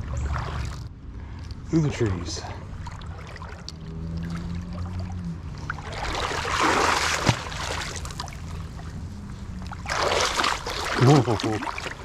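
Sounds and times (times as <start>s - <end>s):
water swishing: 0.0s - 12.0s.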